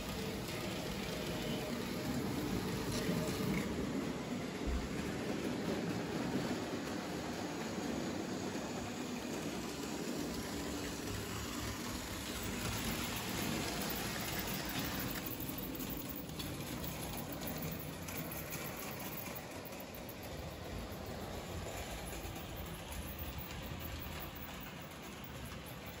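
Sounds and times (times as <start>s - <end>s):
model trains rolling on track: 0.0s - 26.0s.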